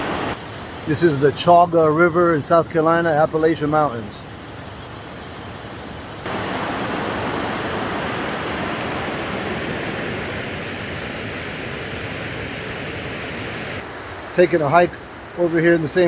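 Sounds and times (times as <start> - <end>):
waterfall rushing: 0.0 - 3.9, 6.2 - 16.0.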